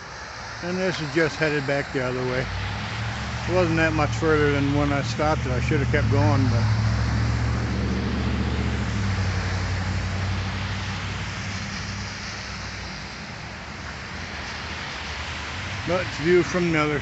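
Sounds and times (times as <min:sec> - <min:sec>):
traffic hiss on wet street: 0:00.0 - 0:17.0
vehicle engine hum: 0:00.0 - 0:17.0.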